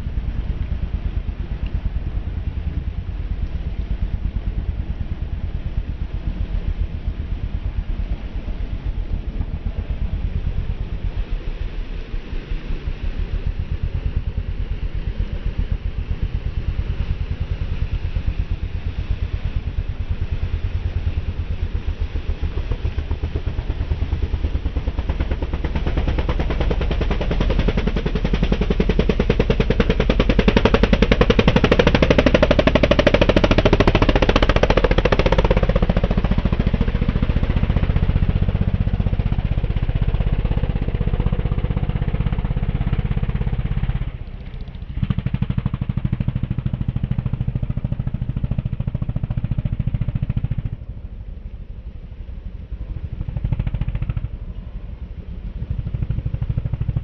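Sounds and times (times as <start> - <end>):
racing engines running: 0.0 - 57.0.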